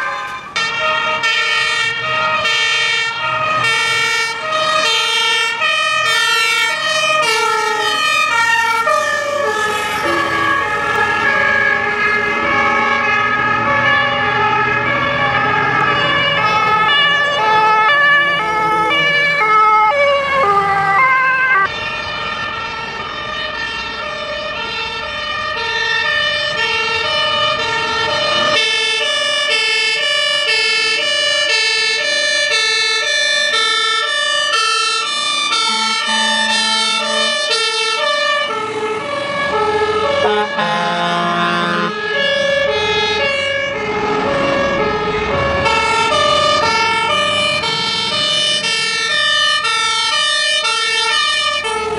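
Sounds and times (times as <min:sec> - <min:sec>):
engine rumble: 0:00.0 - 0:51.9
fire engine two-tone siren: 0:00.0 - 0:51.9.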